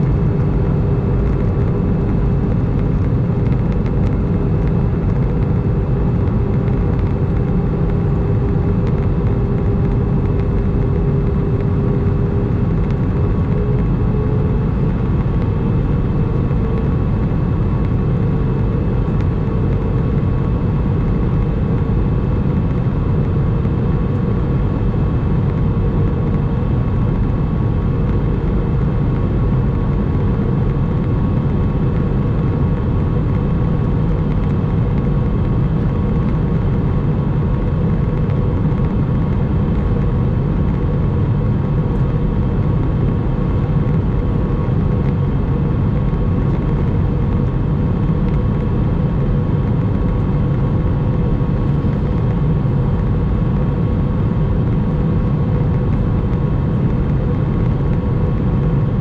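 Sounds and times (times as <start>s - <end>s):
airplane cabin airflow and engine: 0.0s - 59.0s
faint steady hum: 0.0s - 59.0s.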